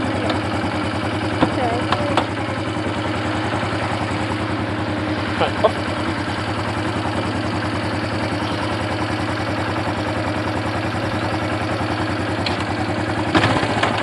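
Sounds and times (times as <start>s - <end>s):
quad bike engine idling: 0.0s - 14.0s.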